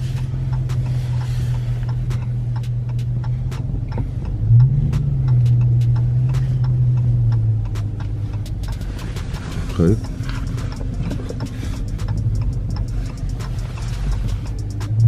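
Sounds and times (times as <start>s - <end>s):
car engine running: 0.0s - 15.0s
hazard flashers ticking: 0.0s - 15.0s.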